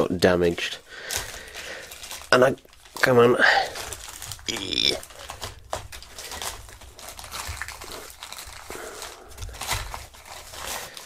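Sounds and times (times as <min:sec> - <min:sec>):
plastic bag crinkling and ripping: 0:00.2 - 0:11.0.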